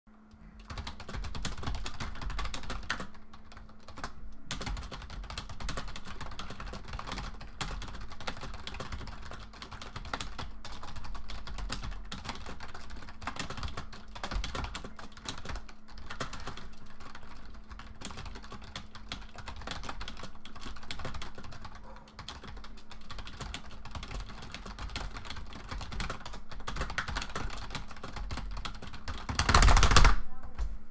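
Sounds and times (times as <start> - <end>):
fast keyboard typing: 0.6 - 30.2.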